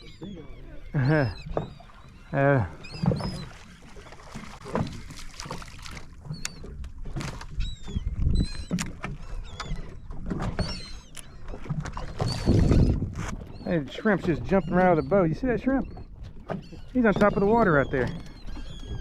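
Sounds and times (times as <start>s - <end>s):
low boat rumble: 0.0s - 19.0s
seabirds calling: 0.0s - 19.0s
boat knocks: 0.2s - 19.0s.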